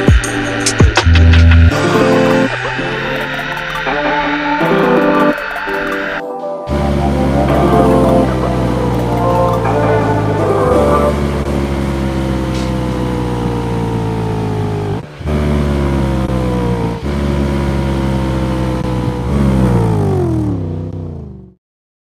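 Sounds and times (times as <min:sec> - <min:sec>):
car engine at high revs: 0:00.0 - 0:21.6.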